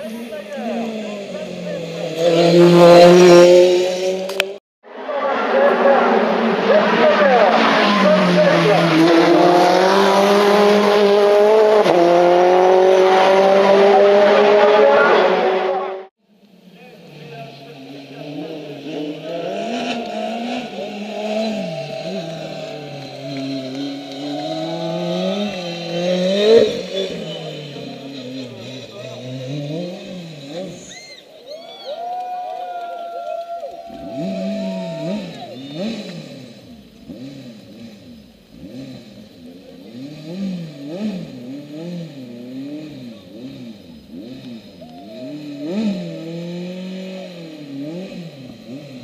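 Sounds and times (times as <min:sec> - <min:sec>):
race car engine revving: 0:00.0 - 0:16.1, 0:16.8 - 0:31.2, 0:33.7 - 0:49.0.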